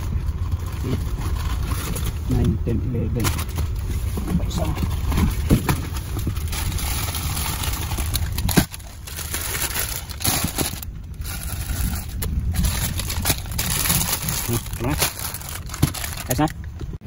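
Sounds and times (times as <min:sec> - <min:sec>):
plastic wrappers crinkling: 0:00.0 - 0:16.8
steady low rumble: 0:00.0 - 0:17.0.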